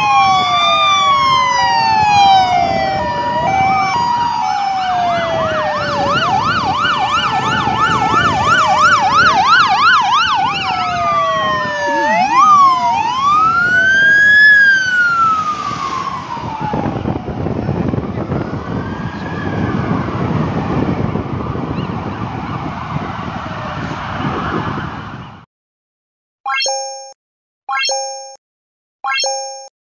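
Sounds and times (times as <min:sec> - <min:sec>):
engine and tyre noise: 0:00.0 - 0:25.4
police sirens wailing and yelping: 0:00.0 - 0:25.4.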